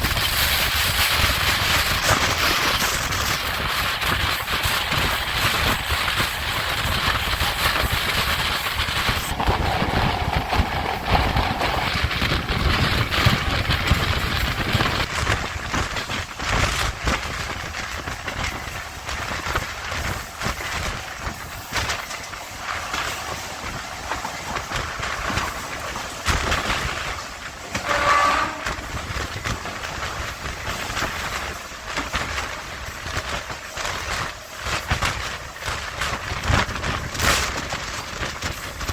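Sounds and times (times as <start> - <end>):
electric train rumbling: 0.0 - 38.9
wheels knocking over rail joints: 0.0 - 38.9.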